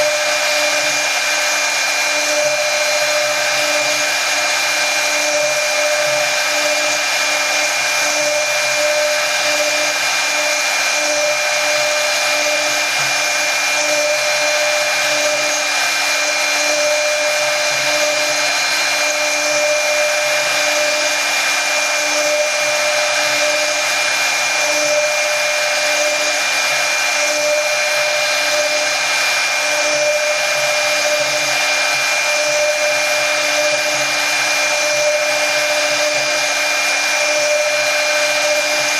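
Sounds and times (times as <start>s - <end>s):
cutting wood noise: 0.0s - 38.9s.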